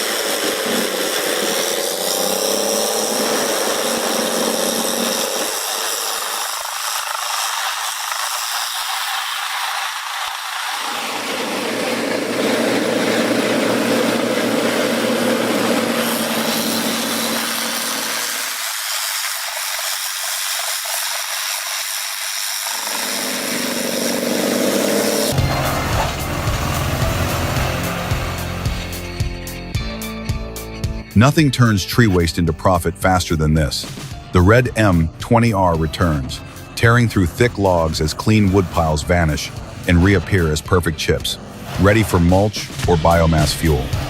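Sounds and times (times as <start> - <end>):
wood-processing machinery grinding: 0.0 - 29.8, 31.1 - 44.0.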